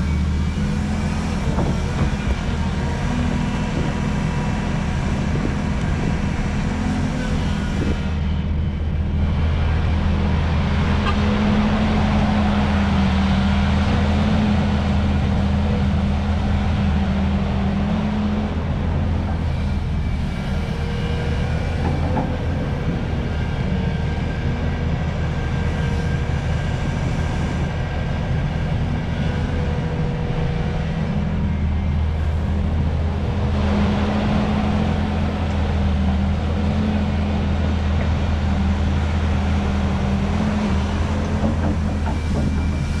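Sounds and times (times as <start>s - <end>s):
excavator diesel engine droning: 0.0s - 43.0s.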